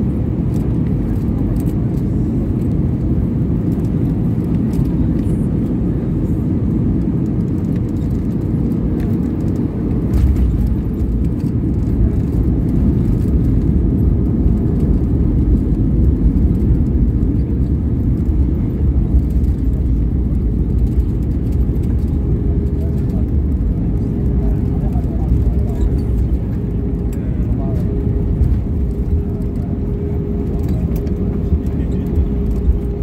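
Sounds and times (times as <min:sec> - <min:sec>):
airplane cabin engine rumble: 0:00.0 - 0:33.0.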